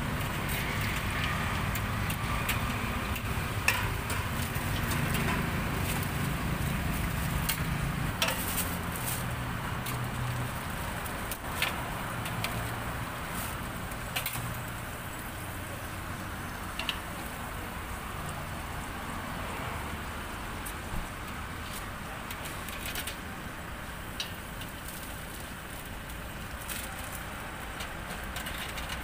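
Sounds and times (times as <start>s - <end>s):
hot oil sizzling: 0.0s - 29.0s.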